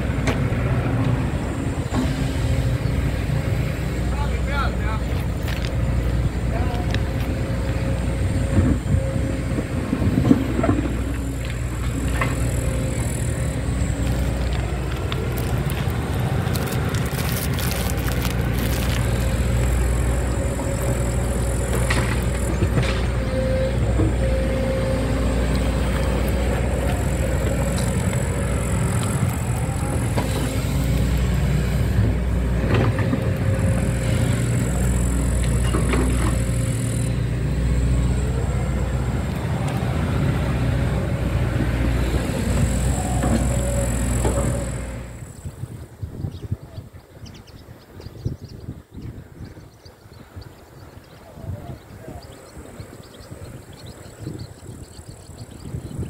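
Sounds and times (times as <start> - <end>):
steady whine: 0.0 - 45.8
diesel train engine rumbling: 0.0 - 46.0.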